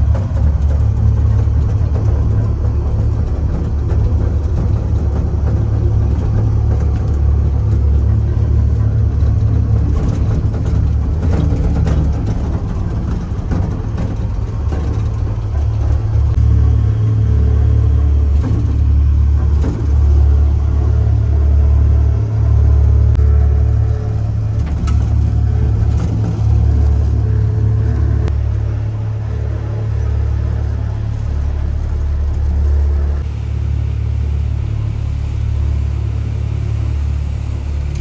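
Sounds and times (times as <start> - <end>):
vehicle engine rumbling: 0.0 - 38.0.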